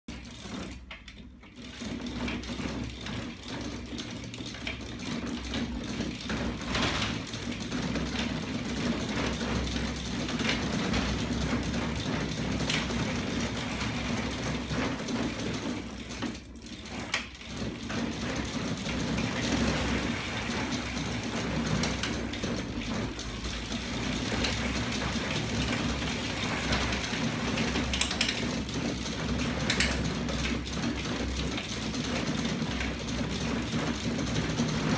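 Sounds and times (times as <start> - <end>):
chain drive clicking and clatter: 0.1 - 34.9
mechanical hum: 0.1 - 34.9.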